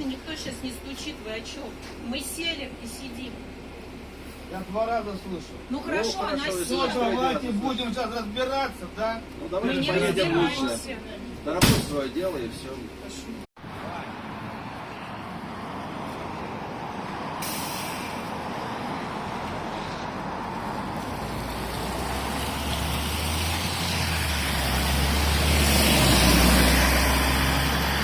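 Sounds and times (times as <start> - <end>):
bus engine rumble: 0.0 - 28.0
road noise: 0.0 - 28.0.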